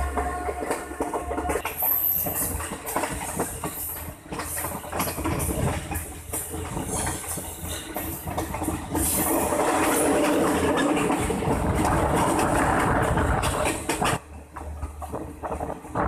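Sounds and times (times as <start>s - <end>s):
train wheels clicking and rattling: 0.0s - 16.0s.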